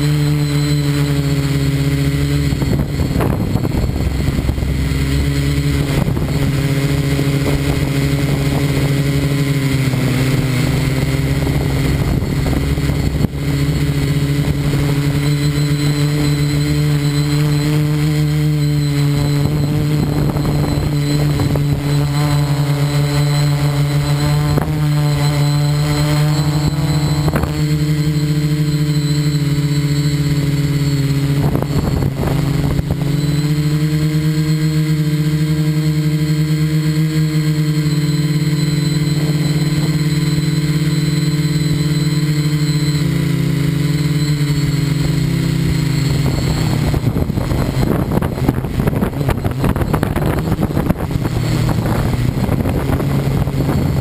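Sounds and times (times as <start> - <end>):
model aircraft motor hum: 0.0 - 54.0.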